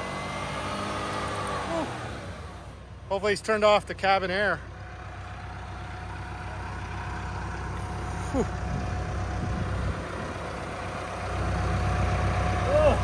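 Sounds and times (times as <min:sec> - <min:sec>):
pickup truck engine idling: 0:01.6 - 0:13.0.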